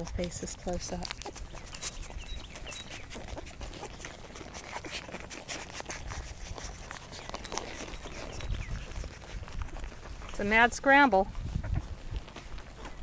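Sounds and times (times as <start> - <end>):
puppies suckling: 0.0 - 13.0.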